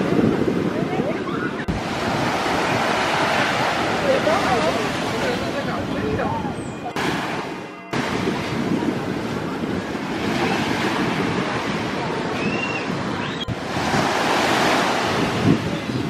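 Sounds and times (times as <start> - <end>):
large waves breaking: 0.0 - 16.0
wind buffeting microphone: 0.0 - 16.0.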